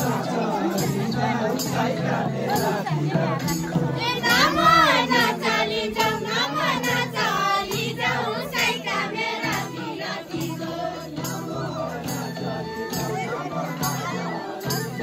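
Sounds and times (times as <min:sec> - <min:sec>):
women and girls singing folk song: 0:00.0 - 0:15.0.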